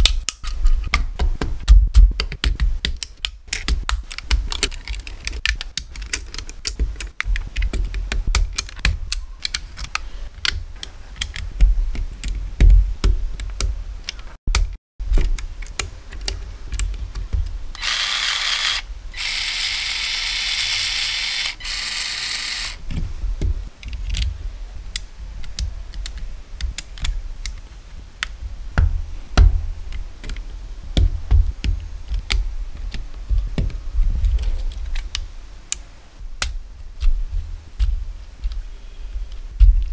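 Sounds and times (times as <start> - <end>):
steady hiss-like noise: 0.0 - 14.4, 15.0 - 39.9.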